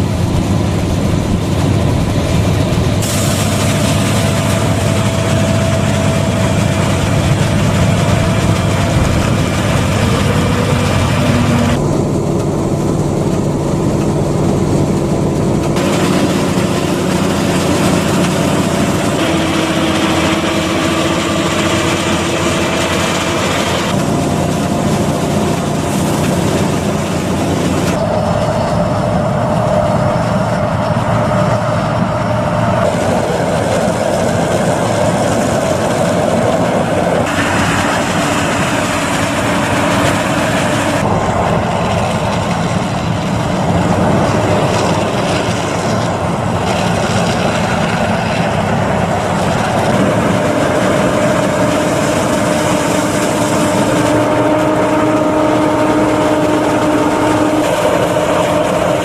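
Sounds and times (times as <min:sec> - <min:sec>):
farm machinery engines droning: 0:00.0 - 0:59.0.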